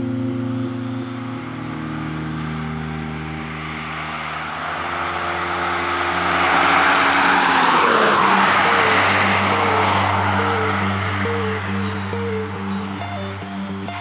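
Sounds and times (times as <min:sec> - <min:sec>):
car driving past: 0:01.0 - 0:14.0.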